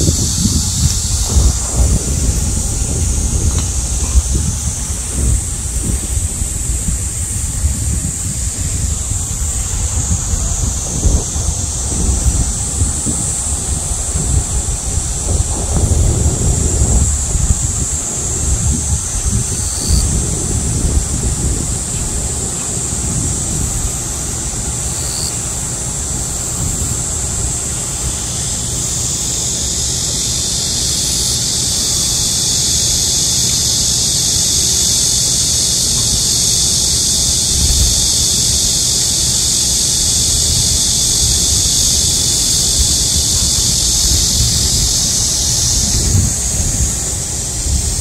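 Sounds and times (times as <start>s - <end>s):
cicadas buzzing: 0.0s - 48.0s
wind rumbling on microphone: 0.0s - 48.0s.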